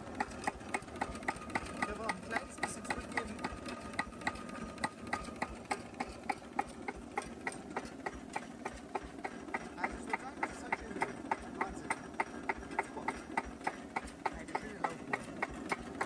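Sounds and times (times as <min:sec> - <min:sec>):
diesel engine idling with knocks: 0:00.0 - 0:16.0.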